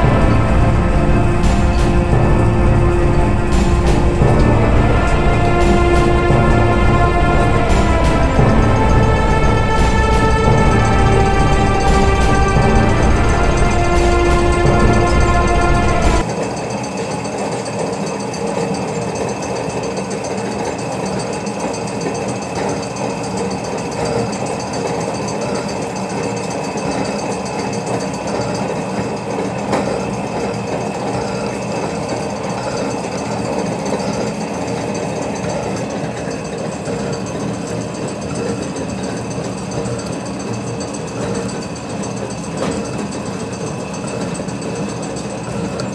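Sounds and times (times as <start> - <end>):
constant machine hum: 0.0 - 45.9.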